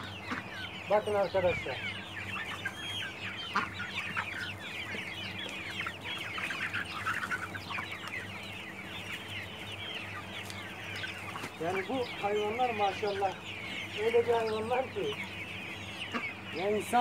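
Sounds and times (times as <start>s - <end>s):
chicks peeping and chirping: 0.0s - 17.0s.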